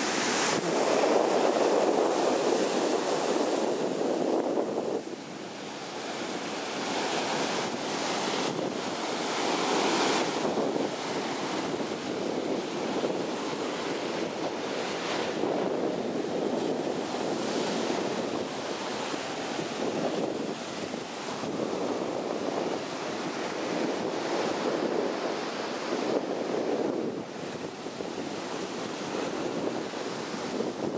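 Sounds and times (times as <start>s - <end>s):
ocean surf breaking on beach: 0.0s - 30.9s
wind buffeting microphone: 0.0s - 30.9s.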